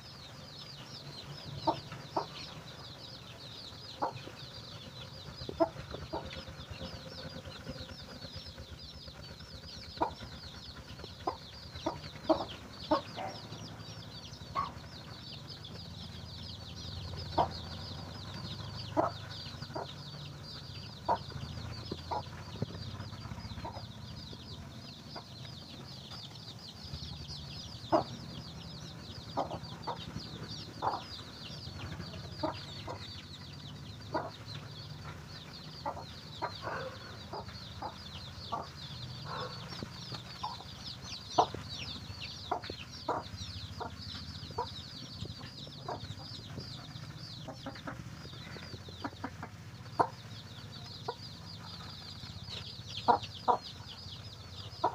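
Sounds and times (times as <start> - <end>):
chicks peeping: 0.0 - 54.9
hen clucking: 0.7 - 54.9.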